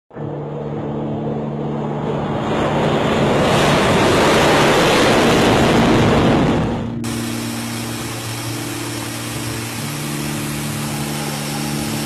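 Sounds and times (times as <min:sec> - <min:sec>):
jet engines roaring: 0:00.1 - 0:12.0.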